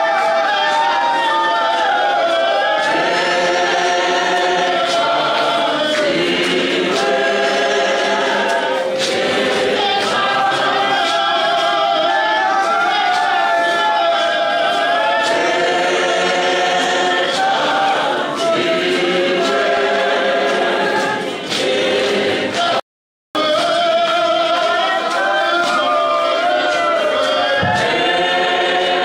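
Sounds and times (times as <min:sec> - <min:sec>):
choir and congregation singing hymn: 0:00.0 - 0:22.8, 0:23.4 - 0:29.0.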